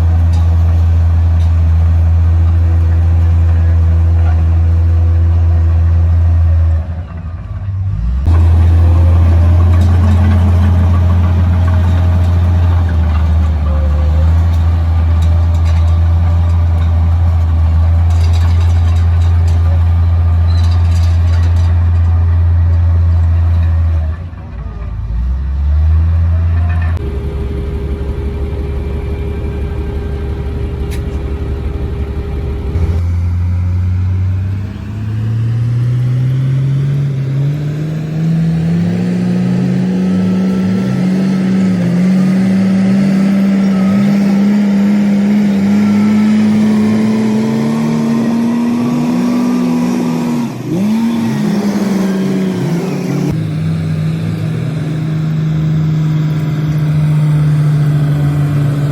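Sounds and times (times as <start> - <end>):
bulldozer diesel engine revving: 0.0 - 58.9.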